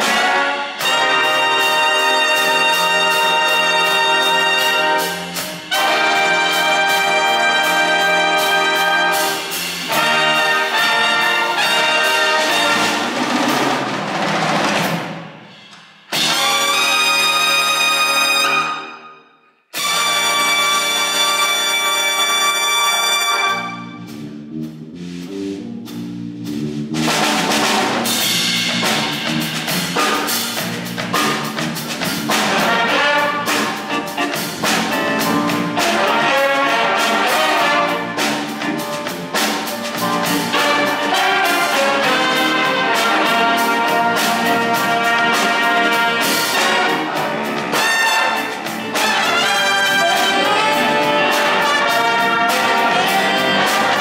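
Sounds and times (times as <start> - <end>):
jazz big band playing funk: 0.0 - 18.8, 19.7 - 54.0.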